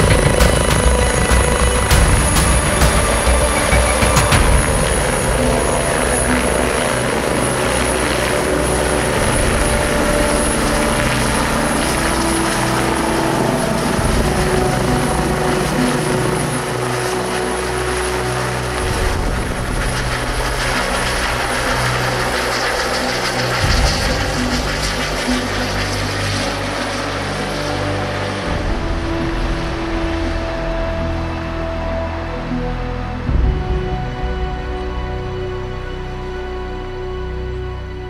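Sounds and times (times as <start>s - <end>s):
helicopter rotor and turbine noise: 0.0s - 38.0s.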